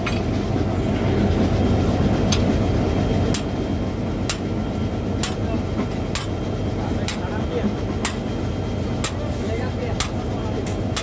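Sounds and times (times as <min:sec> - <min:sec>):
locomotive engine idling: 0:00.0 - 0:11.0.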